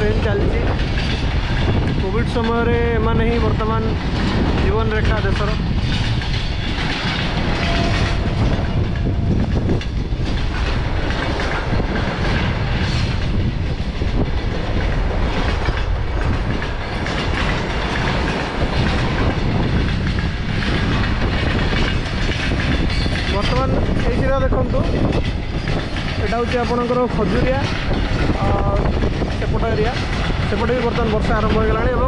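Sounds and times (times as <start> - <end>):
train wheels on rails: 0.0 - 32.0.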